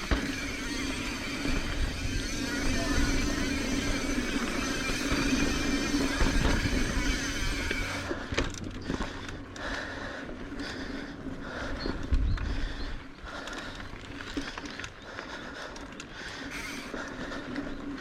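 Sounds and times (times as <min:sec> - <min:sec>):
bike clicks and rattles: 0:00.0 - 0:18.0
bike tyre and wind rush: 0:00.0 - 0:18.0.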